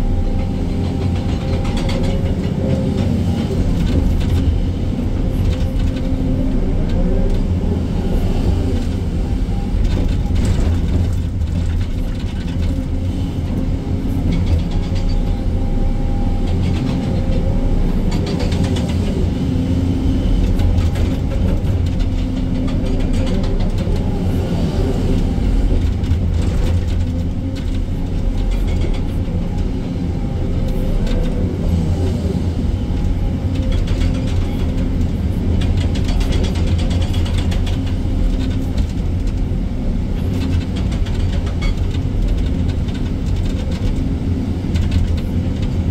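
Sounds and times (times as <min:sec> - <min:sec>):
excavator diesel engine and hydraulics: 0:00.0 - 0:45.9.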